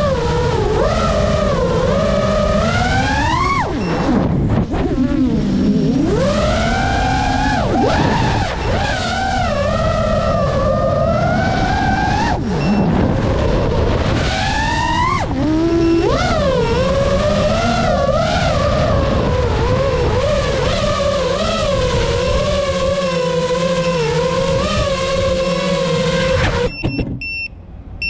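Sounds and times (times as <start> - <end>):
drone motors whining: 0.0 - 27.2.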